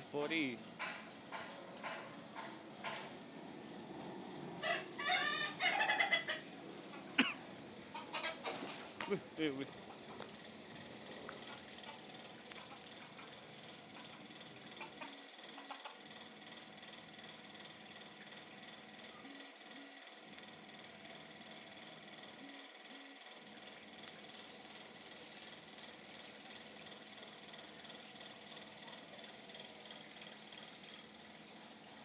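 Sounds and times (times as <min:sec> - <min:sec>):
pond water running and splashing: 0:00.0 - 0:32.0.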